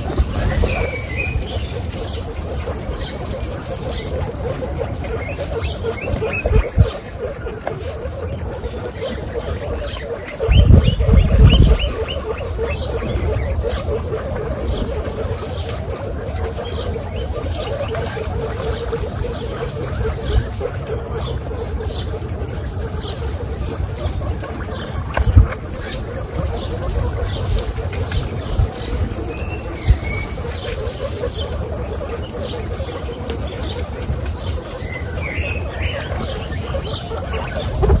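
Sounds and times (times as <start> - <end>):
birds chirping: 0.0 - 38.0
guinea pigs chewing carrot: 0.0 - 38.0.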